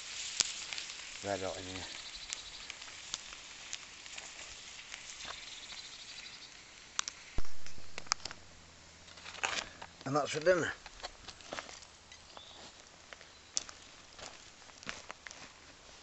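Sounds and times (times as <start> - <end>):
food sizzling on hot stone: 0.0 - 15.6
wood fire crackling: 0.0 - 16.0.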